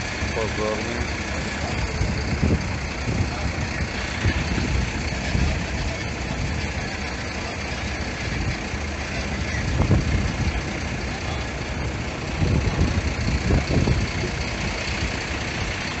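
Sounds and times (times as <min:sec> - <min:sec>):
diesel engine idling: 0:00.0 - 0:16.0
street noise: 0:00.0 - 0:16.0.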